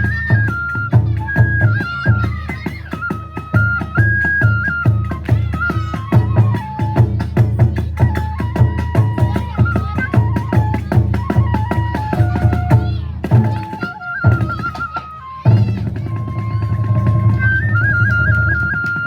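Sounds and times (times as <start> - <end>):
bamboo flute melody: 0.0 - 19.0.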